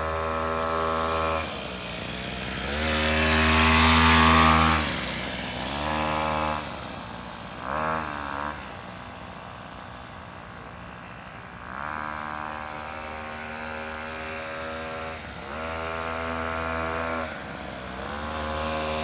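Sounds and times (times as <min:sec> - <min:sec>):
dirt bike engine revving: 0:00.0 - 0:08.9, 0:11.7 - 0:19.0.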